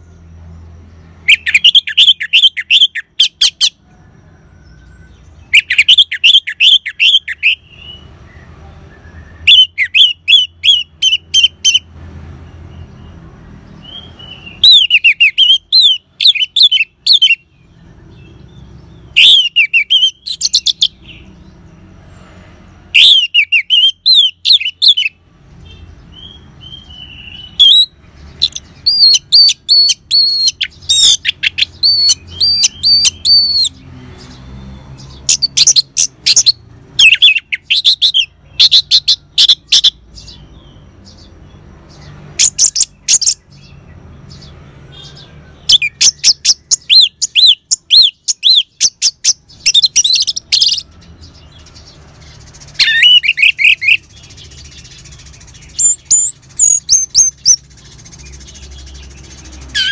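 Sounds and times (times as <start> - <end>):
bird singing rapid notes: 0.0 - 59.9.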